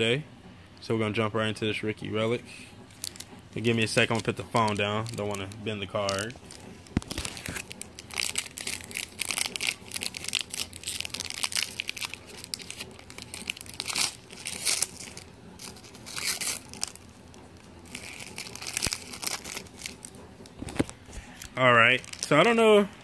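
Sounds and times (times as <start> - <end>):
plastic wrapper crinkling and tearing: 2.9 - 22.8.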